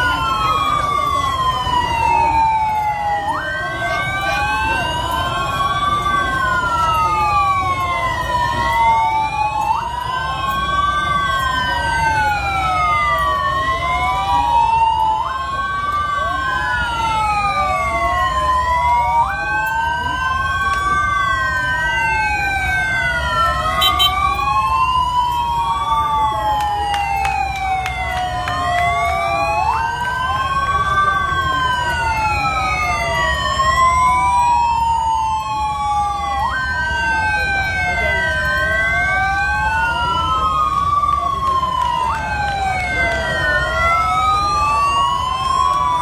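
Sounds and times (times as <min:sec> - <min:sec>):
sirens wailing: 0:00.0 - 0:46.0.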